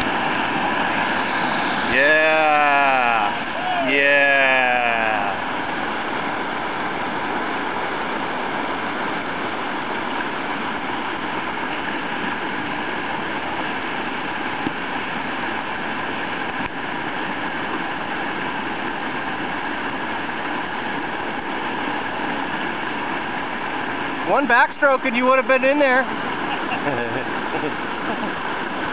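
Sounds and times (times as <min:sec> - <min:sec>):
whitewater rushing: 0:00.0 - 0:28.9.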